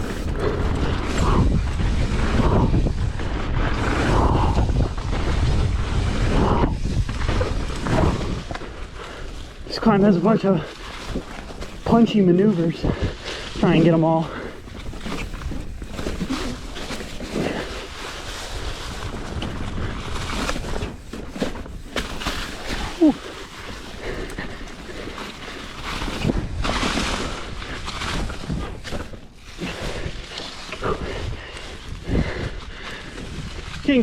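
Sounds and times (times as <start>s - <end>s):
bike tyres rolling over dirt: 0.0s - 34.0s
wind buffeting microphone: 0.0s - 34.0s.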